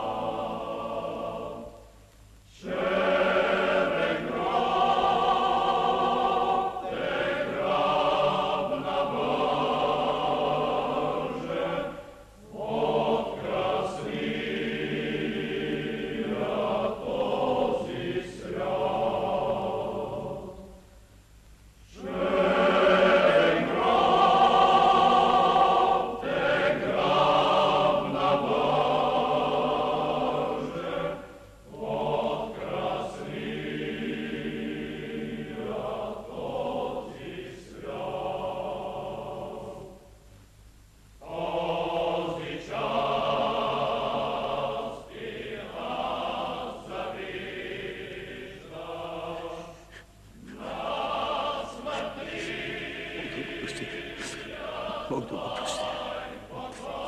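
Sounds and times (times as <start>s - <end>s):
choir singing: 0.0s - 1.8s, 2.5s - 20.8s, 21.9s - 40.1s, 41.2s - 57.0s.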